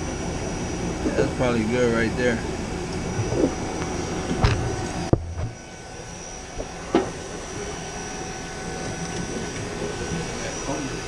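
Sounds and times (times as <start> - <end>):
faint steady tones: 0.0 - 11.0
machinery hum: 0.0 - 11.0.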